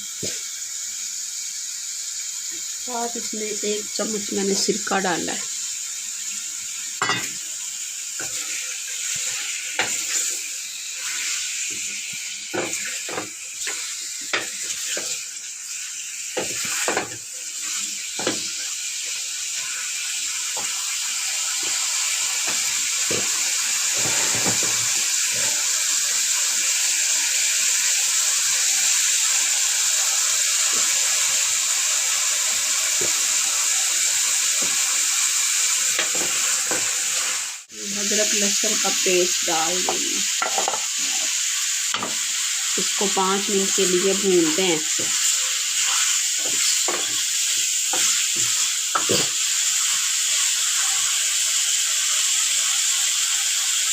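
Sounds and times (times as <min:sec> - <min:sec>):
chicken sizzling in hot oil: 0:00.0 - 0:53.9.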